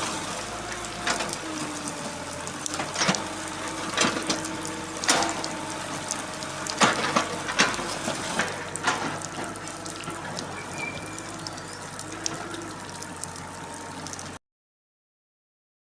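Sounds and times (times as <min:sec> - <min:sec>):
water splashing: 0:00.0 - 0:14.4.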